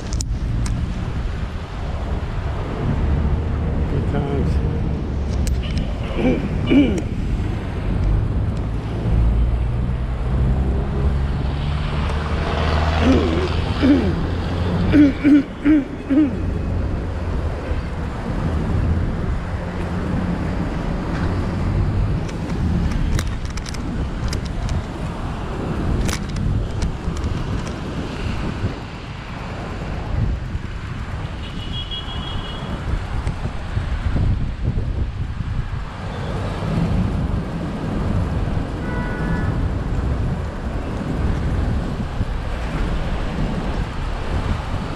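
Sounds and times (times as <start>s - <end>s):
street noise: 0.0s - 44.9s
wind noise: 0.0s - 44.9s.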